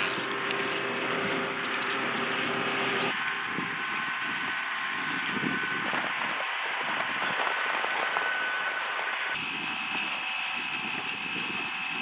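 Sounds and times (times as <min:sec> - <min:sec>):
jet turbines whining: 0:00.0 - 0:12.0
low steady hum: 0:00.0 - 0:12.0.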